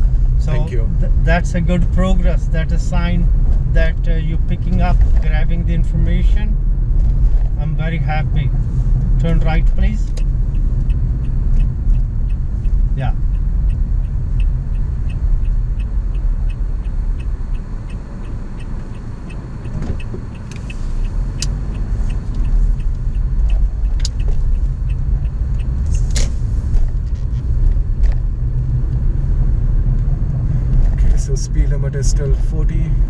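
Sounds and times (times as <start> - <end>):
car engine and tyre rumble: 0.0 - 33.0
turn signal ticking: 0.0 - 33.0.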